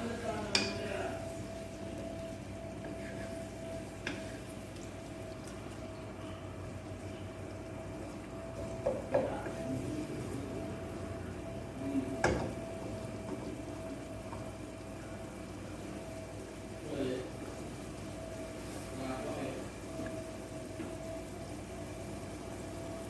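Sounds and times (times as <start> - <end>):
onions and garlic sizzling in oil: 0.0 - 23.0.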